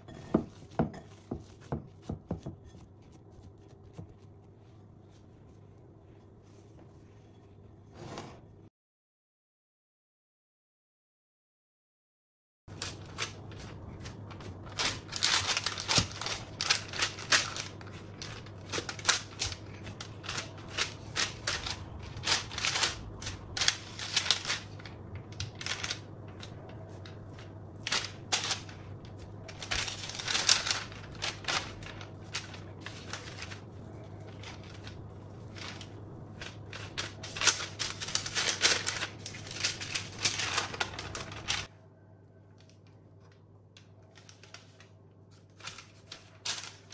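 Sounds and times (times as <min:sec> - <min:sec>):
baking parchment crinkling: 0:00.0 - 0:07.5, 0:12.7 - 0:41.7, 0:42.5 - 0:46.9
low steady hum: 0:00.0 - 0:08.7, 0:12.7 - 0:46.9.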